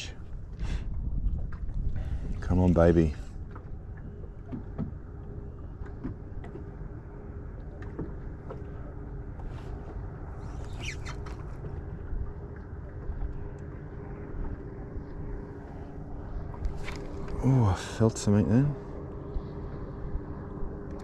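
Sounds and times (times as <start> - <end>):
faint steady hum: 0.0 - 21.0
wind and water rumble: 0.0 - 21.0.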